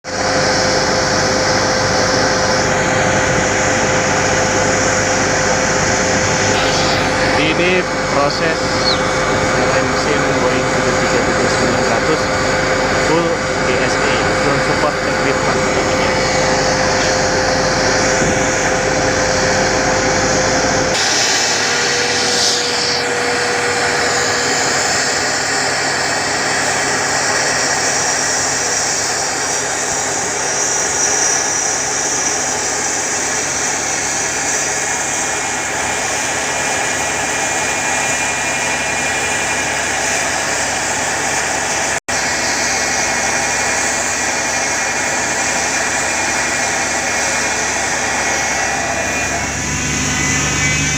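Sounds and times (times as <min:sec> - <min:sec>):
jet engine whining rush: 0:00.0 - 0:50.9.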